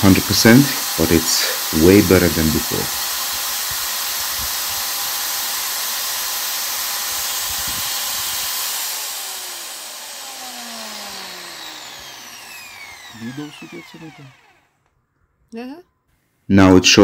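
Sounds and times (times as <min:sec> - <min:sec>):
power tool motor running: 0:00.0 - 0:14.9.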